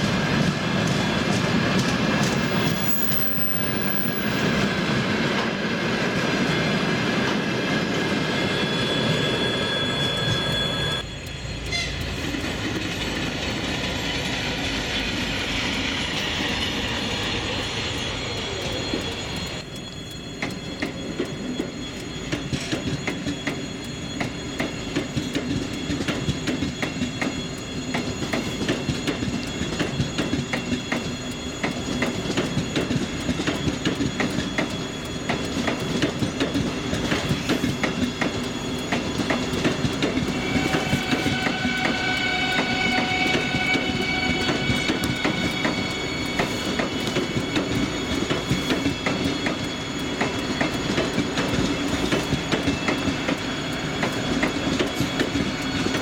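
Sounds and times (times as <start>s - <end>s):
electric locomotive running by: 0.0s - 56.0s
freight train wheels rumbling: 0.0s - 56.0s
train wheel clicks over rail joints: 11.1s - 56.0s.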